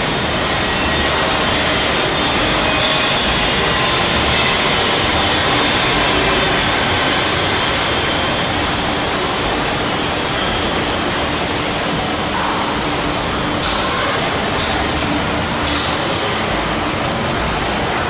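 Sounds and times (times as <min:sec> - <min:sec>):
industrial machinery hiss and rumble: 0:00.0 - 0:18.0.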